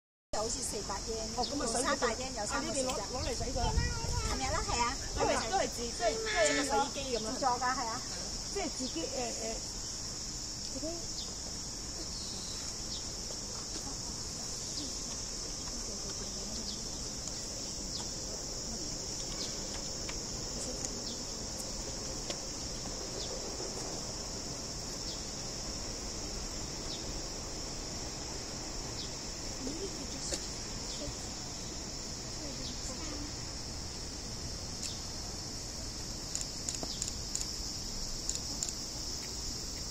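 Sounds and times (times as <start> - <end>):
cicada chorus buzzing: 0.4 - 39.9.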